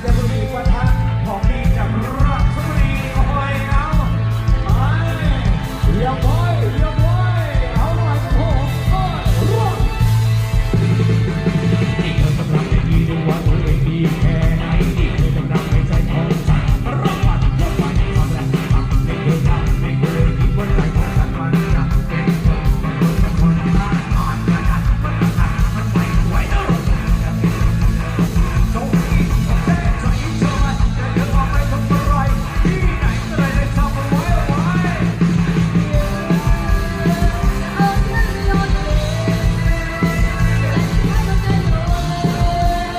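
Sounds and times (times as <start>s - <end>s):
fast steady drum beat: 0.0s - 42.9s
heavy bass line: 0.0s - 42.9s
live band playing amplified music: 0.0s - 42.9s.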